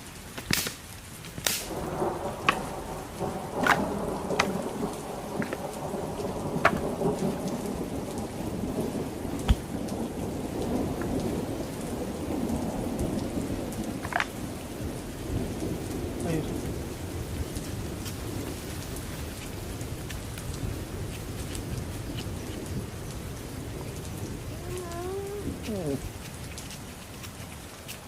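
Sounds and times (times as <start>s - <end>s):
heavy rain pouring: 0.0s - 28.0s
thunder rumbling: 1.6s - 27.0s.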